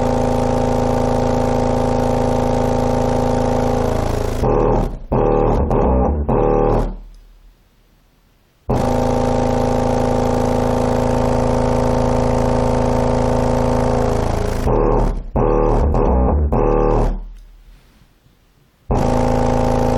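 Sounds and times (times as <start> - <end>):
long steady bass note: 0.0 - 7.6, 8.7 - 17.4, 18.9 - 19.9
subwoofer playing loud bass music: 0.0 - 7.6, 8.7 - 17.4, 18.9 - 19.9.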